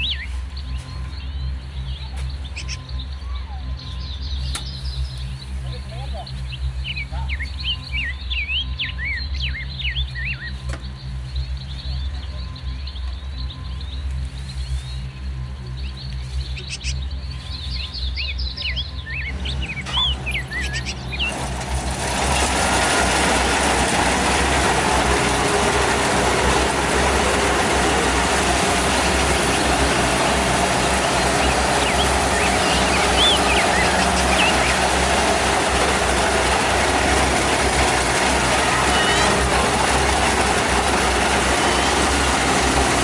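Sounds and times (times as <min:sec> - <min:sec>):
birds chirping: 0:00.0 - 0:43.0
combine harvester engine running: 0:00.0 - 0:43.0.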